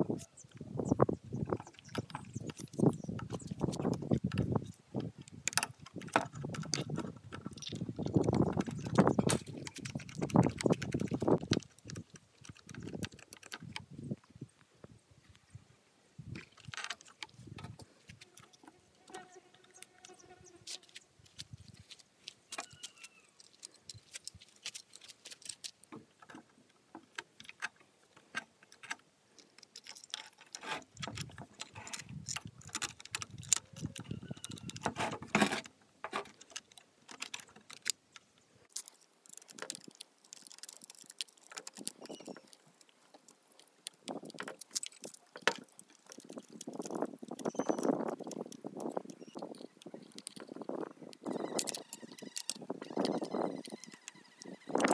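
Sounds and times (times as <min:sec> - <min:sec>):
knocks and handling noise: 0:01.4 - 0:13.8, 0:16.4 - 0:50.9
metallic clicks of parts handled: 0:01.5 - 0:13.8, 0:19.6 - 0:54.9.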